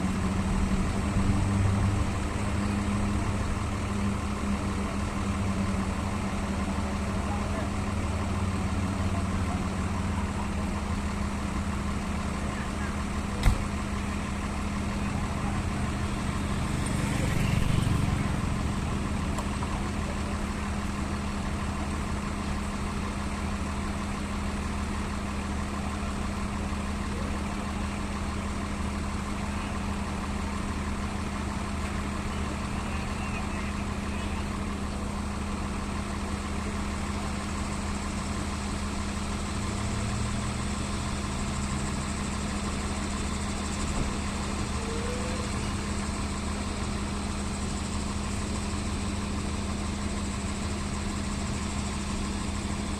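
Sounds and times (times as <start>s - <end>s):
bus diesel engine idling: 0.0s - 52.9s.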